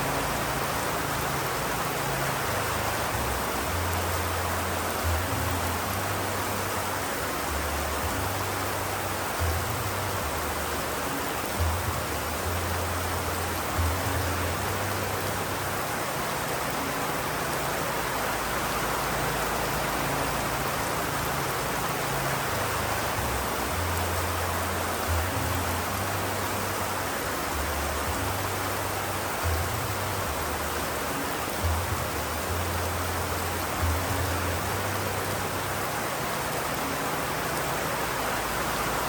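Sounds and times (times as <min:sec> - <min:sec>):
steady rain: 0:00.0 - 0:39.0.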